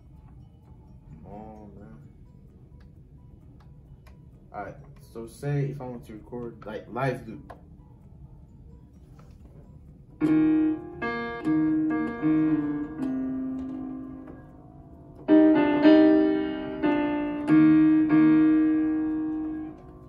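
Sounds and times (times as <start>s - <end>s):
piano chords through small speakers: 0.0s - 20.0s.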